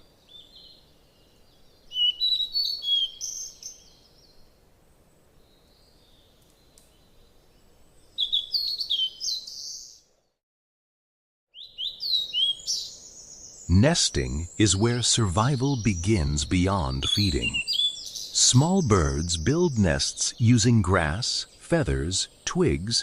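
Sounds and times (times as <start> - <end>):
small songbird chirping: 0.0 - 4.6, 5.3 - 10.1, 11.5 - 23.0
faint background hiss: 0.0 - 10.3, 11.7 - 23.0.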